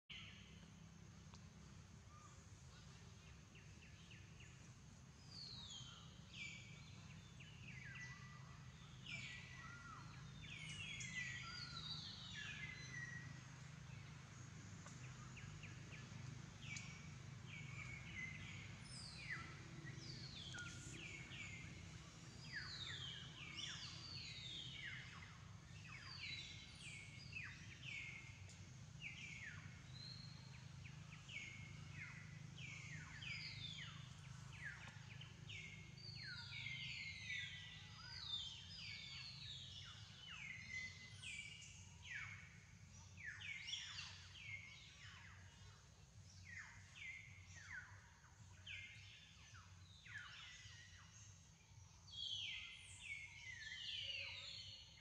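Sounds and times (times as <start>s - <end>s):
low background hum: 0.1s - 54.9s
birds calling with falling whistles: 5.2s - 55.0s.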